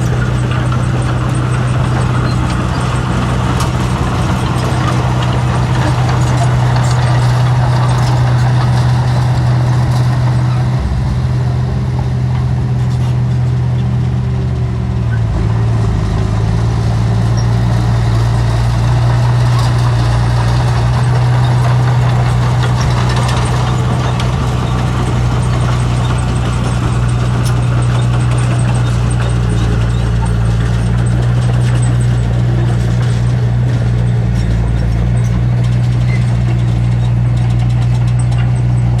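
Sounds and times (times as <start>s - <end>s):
heavy diesel engine humming: 0.0s - 39.0s.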